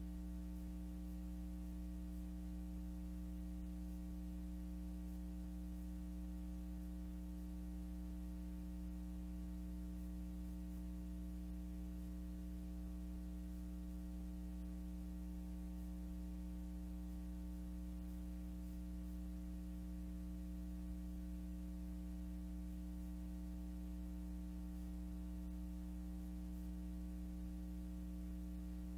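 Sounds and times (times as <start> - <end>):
electrical hum: 0.0 - 28.9.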